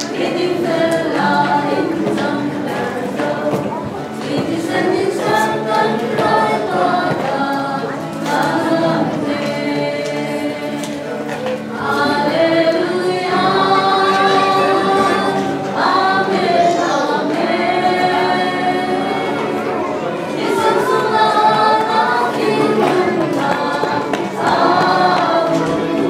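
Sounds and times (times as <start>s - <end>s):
mixed voices singing a hymn: 0.0s - 26.0s.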